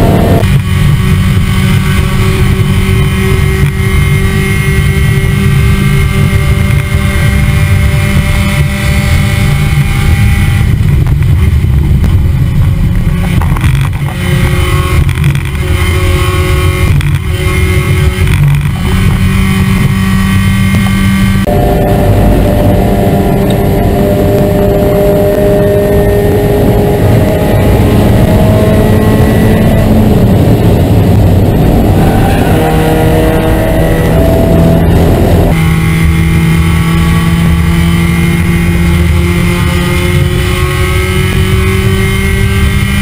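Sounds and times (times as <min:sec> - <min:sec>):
race car engine at high revs: 0:00.0 - 0:43.0
wind rushing: 0:00.0 - 0:43.0.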